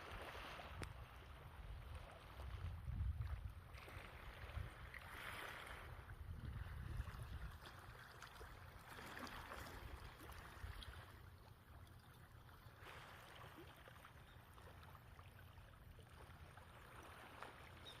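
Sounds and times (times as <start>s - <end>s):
gentle waves washing on shore: 0.0s - 18.0s.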